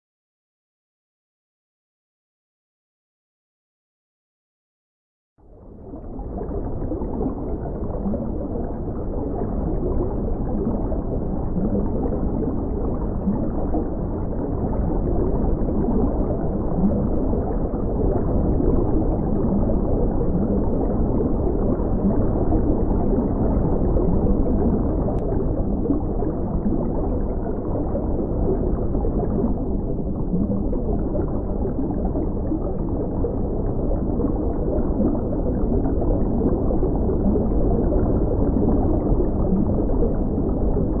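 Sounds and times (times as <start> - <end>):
muffled water gurgling and bubbling: 5.4 - 41.0.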